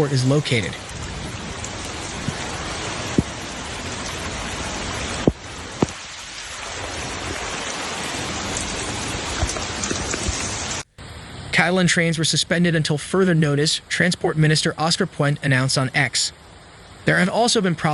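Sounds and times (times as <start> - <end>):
heavy rain pouring: 0.0 - 17.9.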